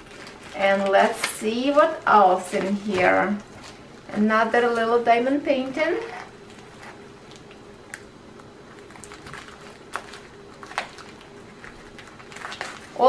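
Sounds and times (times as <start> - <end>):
faint steady hum: 0.0 - 13.0
plastic wrapping crinkling: 0.0 - 13.0.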